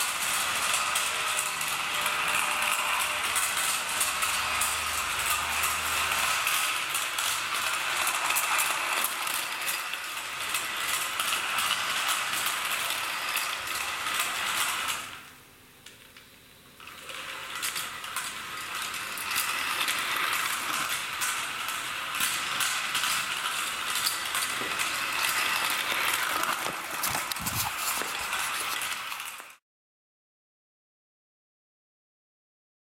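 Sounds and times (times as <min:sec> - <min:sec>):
toy steam locomotive clicking: 0:00.0 - 0:16.0, 0:16.8 - 0:29.6.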